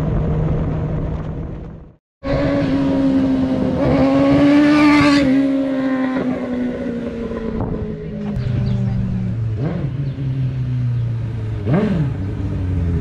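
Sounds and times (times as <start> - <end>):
motorcycle passing at high revs: 2.2 - 13.0.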